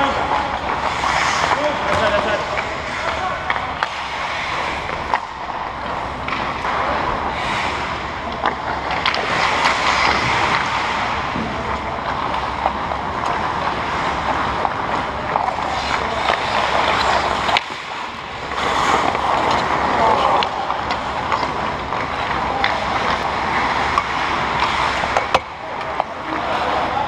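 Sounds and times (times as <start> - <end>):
hockey sticks and puck clacking: 0.0 - 27.0
skates scraping ice: 0.0 - 27.0.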